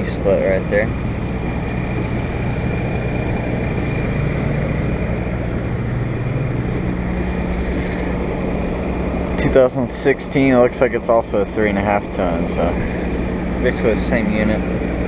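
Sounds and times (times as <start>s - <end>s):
condenser fan rushing: 0.0s - 15.0s
low compressor hum: 0.0s - 15.0s.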